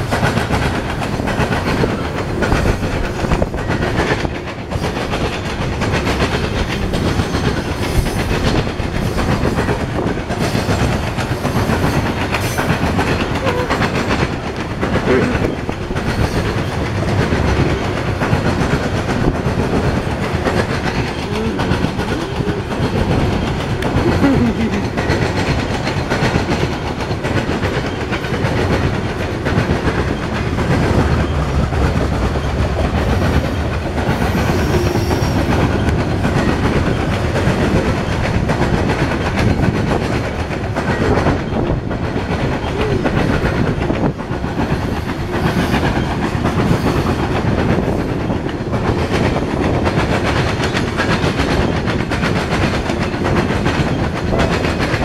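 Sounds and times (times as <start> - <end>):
freight train rumbling past: 0.0 - 55.0
steel wheels clacking over rail joints: 0.0 - 55.0.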